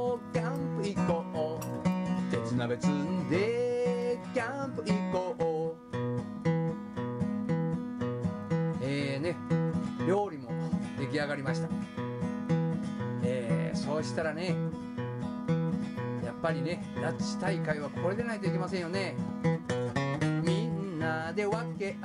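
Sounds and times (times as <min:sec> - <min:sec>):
acoustic guitar music: 0:00.0 - 0:22.0.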